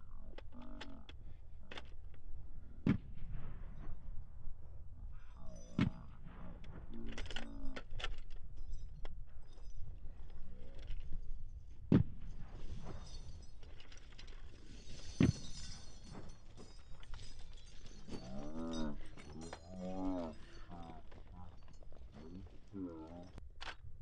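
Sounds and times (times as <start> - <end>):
weapons and gear clicking and rattling: 0.0 - 4.0, 5.2 - 23.9.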